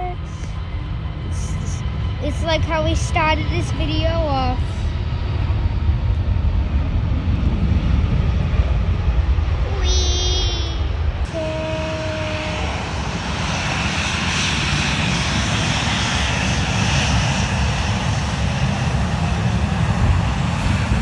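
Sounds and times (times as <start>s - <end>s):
jet airliner passing: 0.0s - 21.0s.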